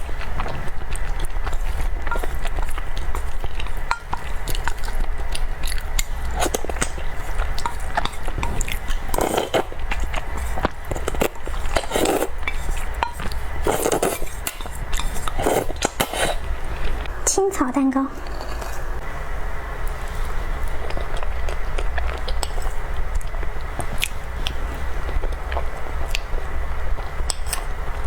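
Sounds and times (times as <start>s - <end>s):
wet chewing and mouth clicks: 0.0s - 17.1s, 19.9s - 28.0s.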